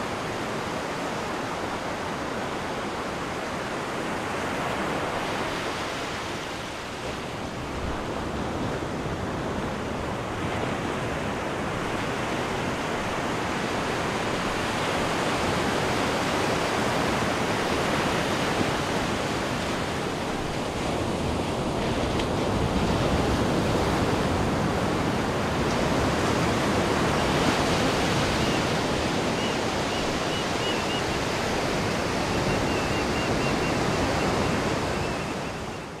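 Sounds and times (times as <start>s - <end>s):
ocean surf breaking on beach: 0.0s - 36.0s.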